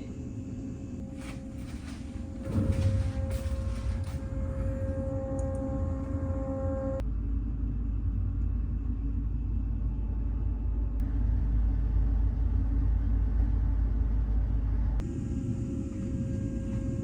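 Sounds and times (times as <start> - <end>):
deep steady rumble: 0.0 - 17.0.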